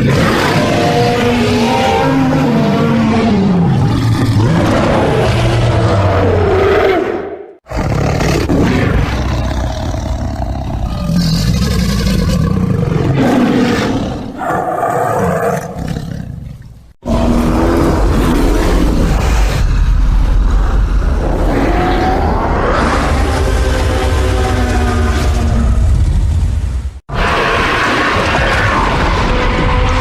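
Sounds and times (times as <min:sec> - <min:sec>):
monster roar: 0:00.0 - 0:16.3, 0:17.0 - 0:26.0, 0:27.1 - 0:30.0.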